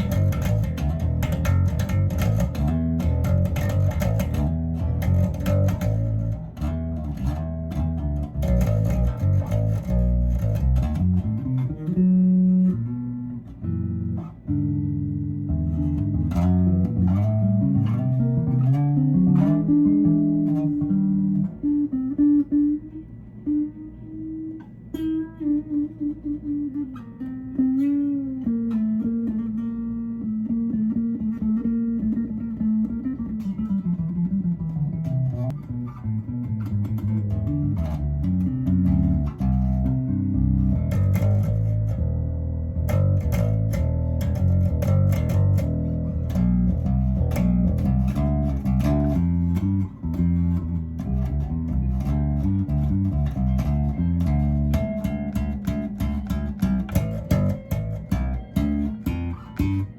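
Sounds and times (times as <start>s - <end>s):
electric bass guitar playing: 0.0s - 59.9s.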